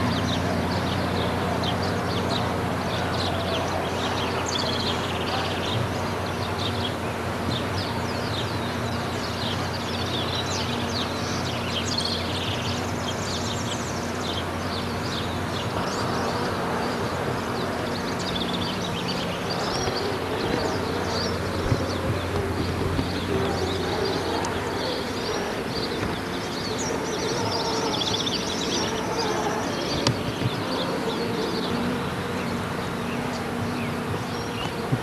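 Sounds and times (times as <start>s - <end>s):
many birds chirping: 0.0s - 35.0s.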